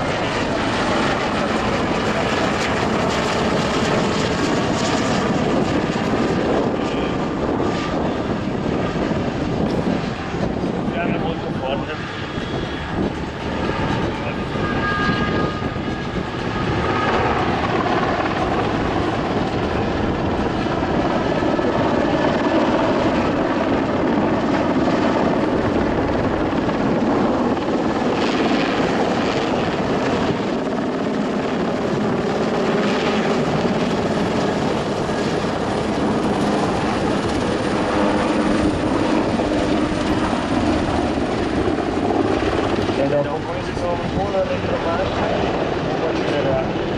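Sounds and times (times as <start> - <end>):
helicopter rotor and turbine: 0.0 - 46.9.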